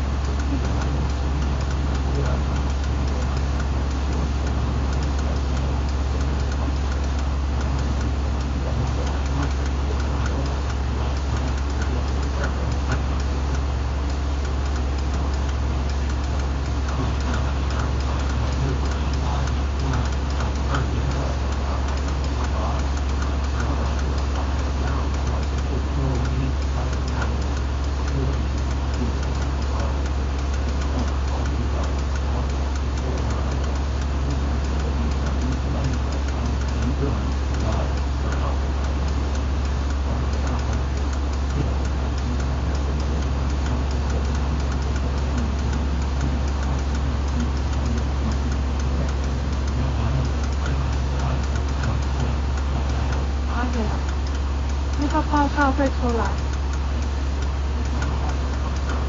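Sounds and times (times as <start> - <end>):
light ticks: 0.0 - 59.0
vibration shaker humming: 0.0 - 59.0.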